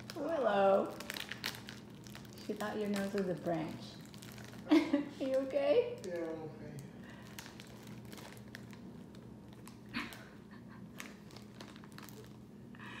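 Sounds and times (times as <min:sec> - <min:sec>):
plastic wrappers crinkling: 0:00.0 - 0:12.6.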